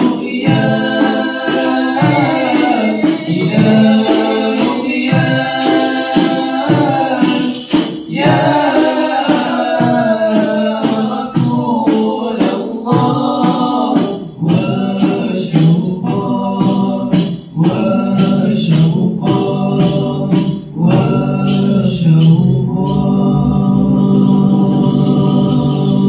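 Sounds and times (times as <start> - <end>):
hand drum strokes: 0.0 - 26.0
male vocal ensemble singing: 0.0 - 26.0.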